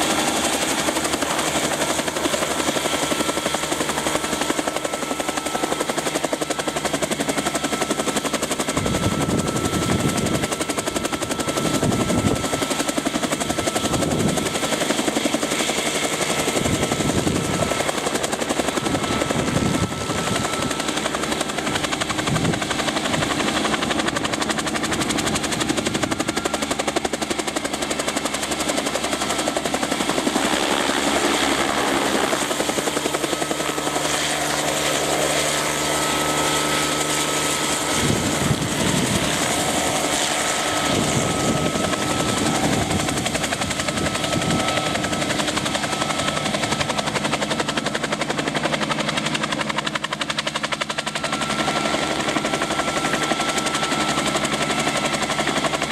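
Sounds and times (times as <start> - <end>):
helicopter engine drone and rotor chop: 0.0 - 55.9.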